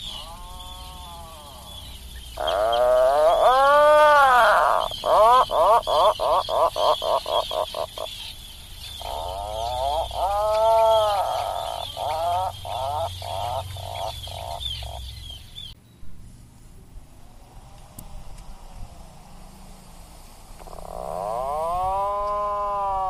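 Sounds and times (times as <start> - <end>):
puffin calling: 0.0 - 15.5, 17.2 - 23.0.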